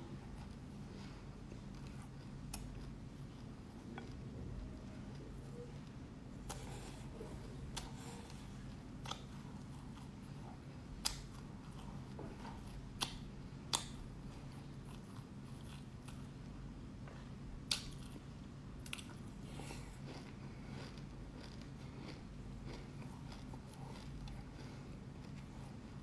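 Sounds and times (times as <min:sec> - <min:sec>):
chewing sesame seeds: 0:00.1 - 0:16.6, 0:17.6 - 0:26.0.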